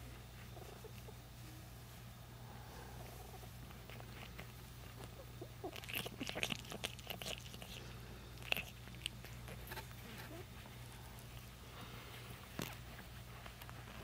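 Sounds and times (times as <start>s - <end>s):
cat purring softly: 0.0s - 14.0s.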